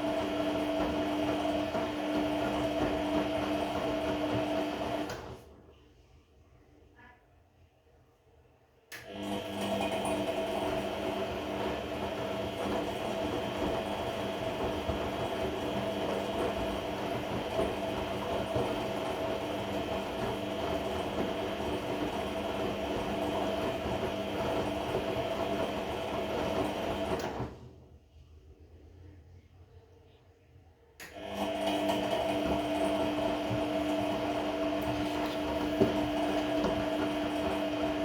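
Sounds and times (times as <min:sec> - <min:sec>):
washing machine whirring with whine: 0:00.0 - 0:38.0.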